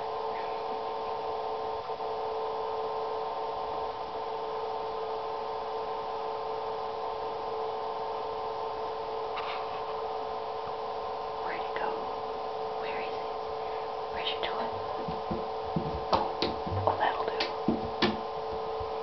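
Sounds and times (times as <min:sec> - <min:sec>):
steady hum of held tones: 0:00.0 - 0:19.0.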